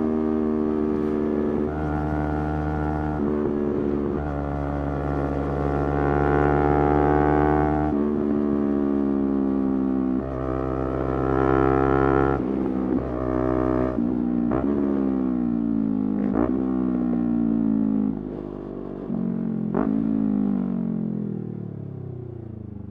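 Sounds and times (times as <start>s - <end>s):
motorcycle engine riding: 0.0s - 22.9s.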